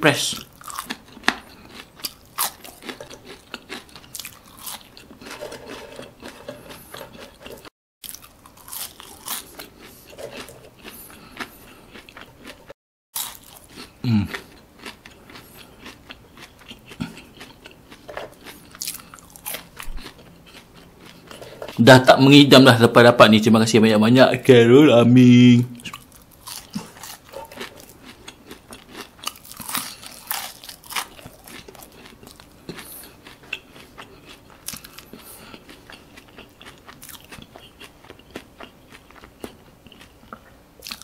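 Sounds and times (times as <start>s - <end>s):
crunching fries: 0.2s - 21.8s, 25.8s - 41.0s.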